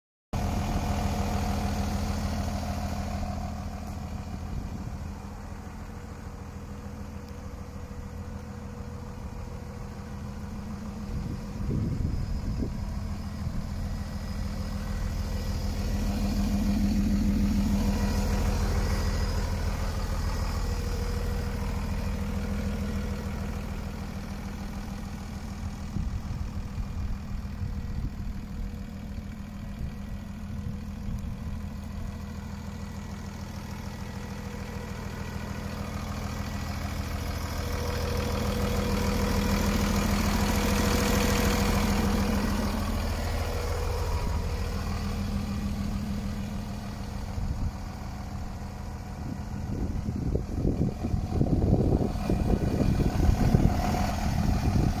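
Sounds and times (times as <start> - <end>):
truck diesel engine idling: 0.3 - 55.0.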